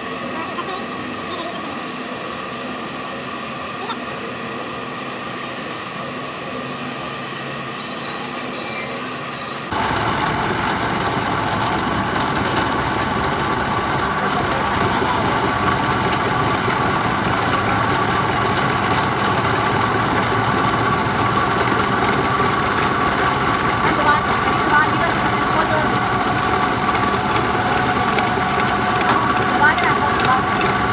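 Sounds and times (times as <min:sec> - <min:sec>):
workshop machinery humming: 0:00.0 - 0:30.9.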